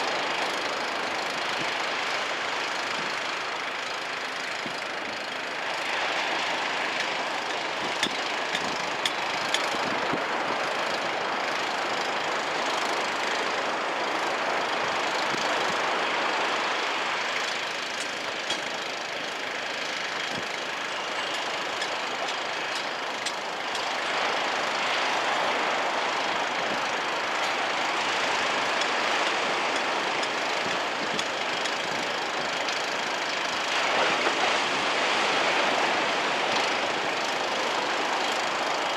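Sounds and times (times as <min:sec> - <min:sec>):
sharp ticks: 0:00.0 - 0:33.7
small waves breaking on beach: 0:00.0 - 0:38.9.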